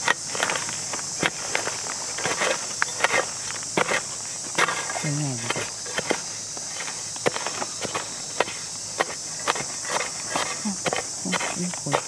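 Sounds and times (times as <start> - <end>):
crunches in leaf litter: 0.0 - 12.0
insects droning: 0.0 - 12.0.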